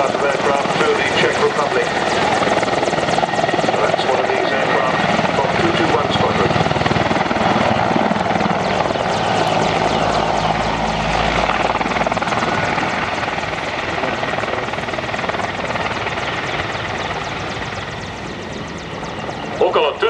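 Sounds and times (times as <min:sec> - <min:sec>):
helicopter engines and rotor: 0:00.0 - 0:20.0.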